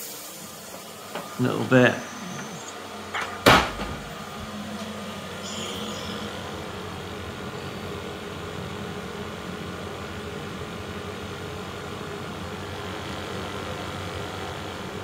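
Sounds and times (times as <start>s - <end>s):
boiler humming: 0.0s - 15.0s.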